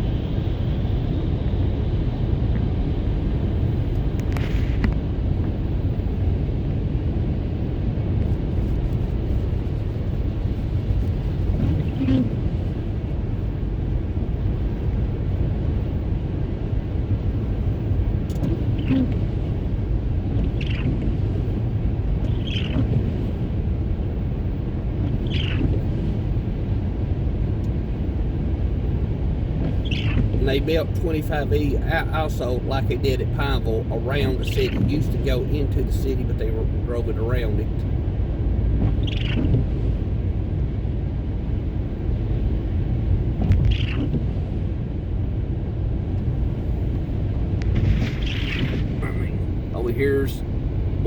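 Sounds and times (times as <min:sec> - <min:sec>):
road and engine rumble: 0:00.0 - 0:51.0.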